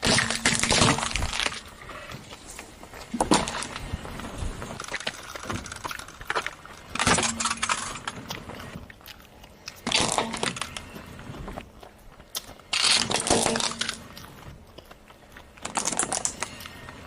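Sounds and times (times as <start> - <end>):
crispy food crunching: 0.0 - 17.0.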